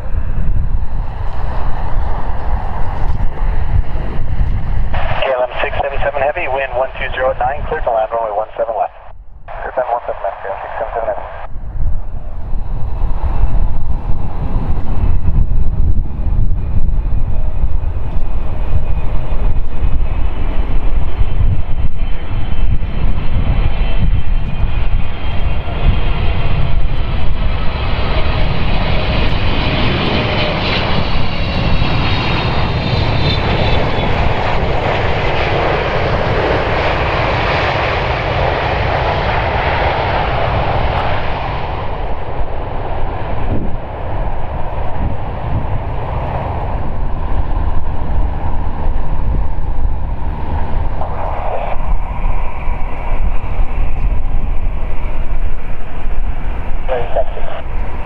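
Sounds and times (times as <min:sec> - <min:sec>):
jet reverse thrust roar: 0:00.0 - 0:58.0
low rumble: 0:00.0 - 0:58.0
jet fan whine: 0:08.5 - 0:58.0.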